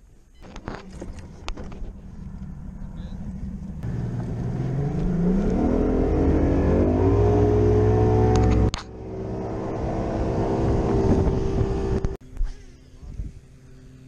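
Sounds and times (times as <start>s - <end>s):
outboard motor running: 0.8s - 14.0s.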